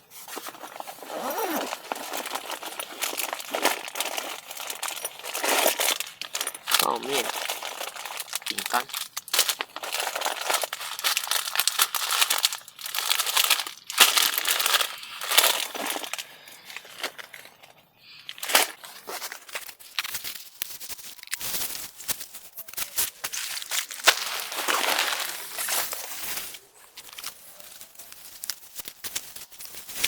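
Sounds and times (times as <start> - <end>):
plastic wrappers crinkling: 0.1 - 30.0.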